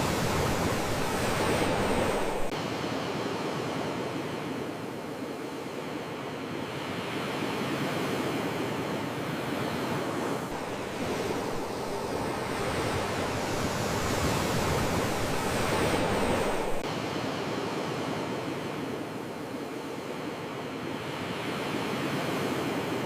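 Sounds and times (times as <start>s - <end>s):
sea waves washing in: 0.0s - 23.0s.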